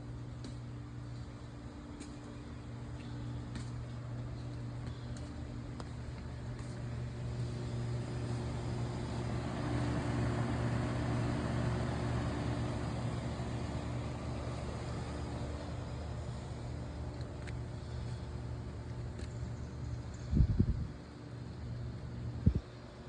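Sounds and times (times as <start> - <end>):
low motor hum: 0.0 - 23.0.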